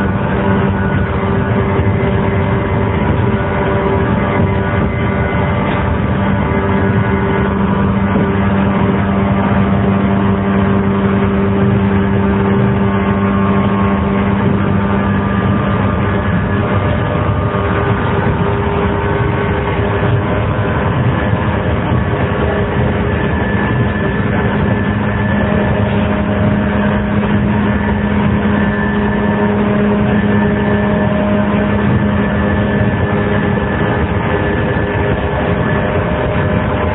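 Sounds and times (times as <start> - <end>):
electric train motors humming: 0.0 - 36.9
wheels rumbling on rail: 0.0 - 36.9.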